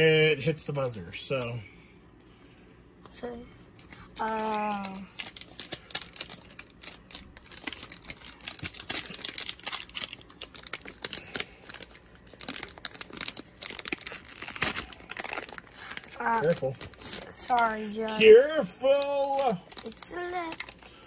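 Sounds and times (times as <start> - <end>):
card pack wrapper crinkling: 3.9 - 21.0.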